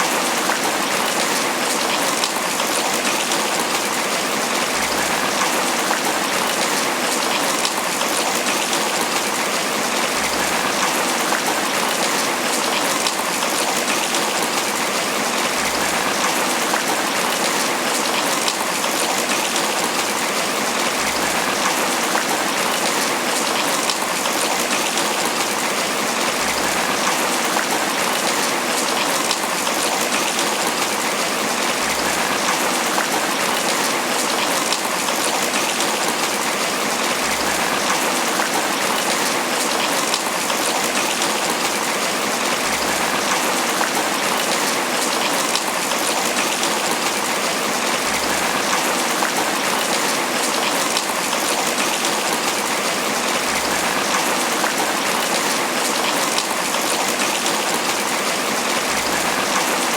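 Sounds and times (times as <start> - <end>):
rain on broad leaves: 0.0 - 59.9.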